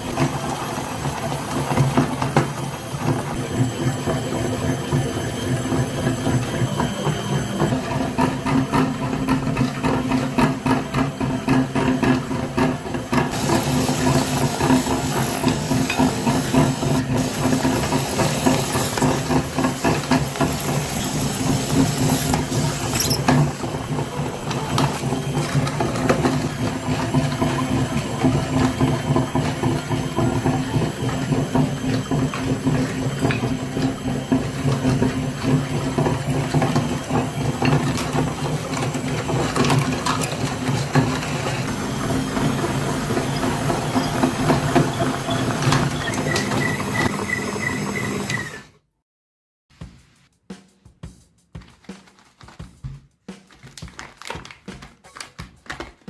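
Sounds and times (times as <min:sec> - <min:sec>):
small motor and gears rattling: 0:00.0 - 0:48.7.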